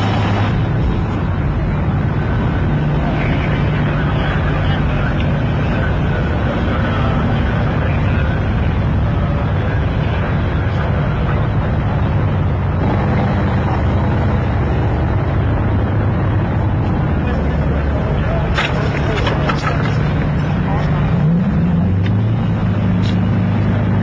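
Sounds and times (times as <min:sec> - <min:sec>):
engine rumble: 0:00.0 - 0:24.0.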